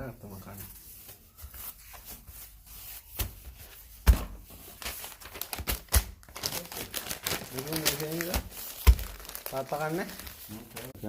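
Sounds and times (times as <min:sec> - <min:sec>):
rustling and crinkling: 0:00.2 - 0:11.0.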